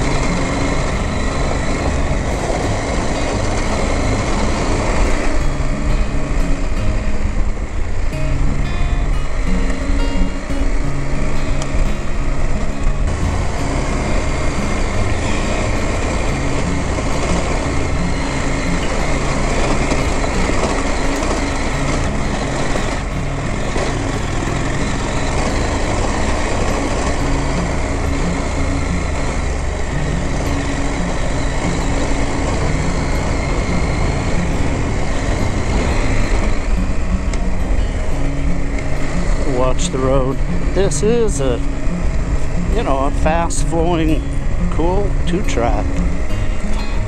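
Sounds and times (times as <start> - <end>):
motorcycle engine running: 0.0 - 47.0
road noise: 0.0 - 47.0
wind: 0.0 - 47.0.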